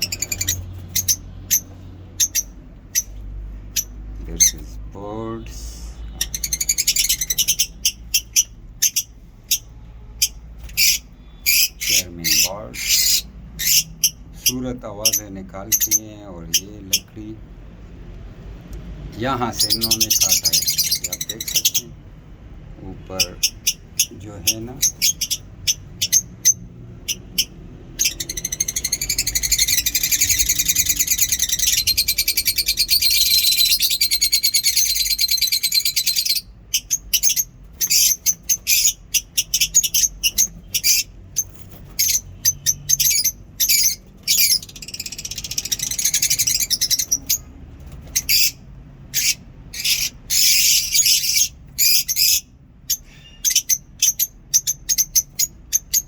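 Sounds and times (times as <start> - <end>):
birds chirping and chattering: 0.0 - 56.0.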